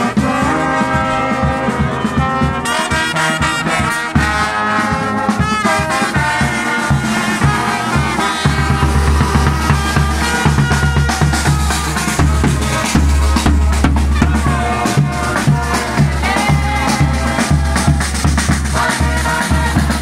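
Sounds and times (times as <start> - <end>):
bass drum beats: 0.0 - 20.0
brass band playing: 0.0 - 20.0
snare drum: 0.0 - 20.0.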